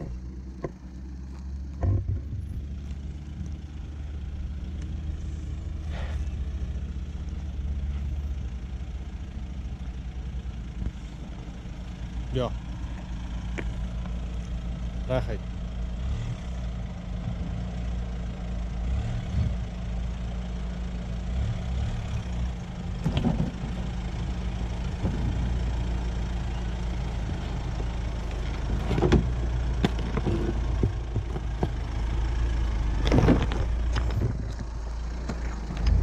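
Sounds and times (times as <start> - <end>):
car engine running at low speed: 0.0 - 36.0.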